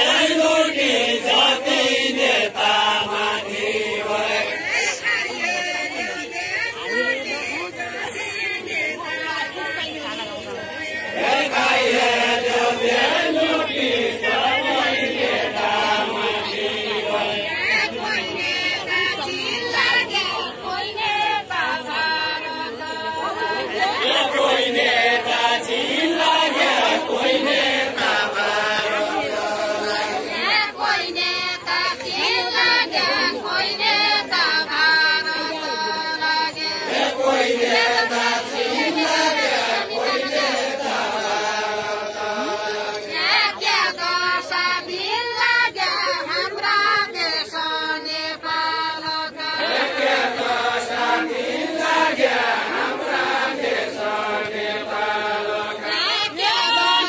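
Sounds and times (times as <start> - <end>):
group singing unaccompanied folk song: 0.0 - 57.0.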